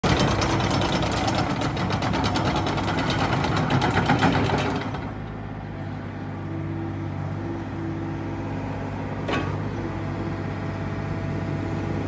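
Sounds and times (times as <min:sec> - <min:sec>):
diesel engine drone: 0:00.0 - 0:12.0.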